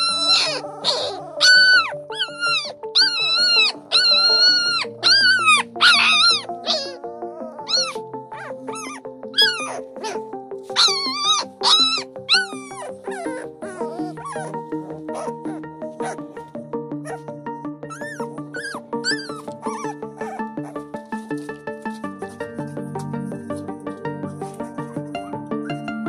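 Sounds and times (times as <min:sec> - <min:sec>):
newborn puppies whining: 0:00.0 - 0:17.3, 0:17.9 - 0:21.5.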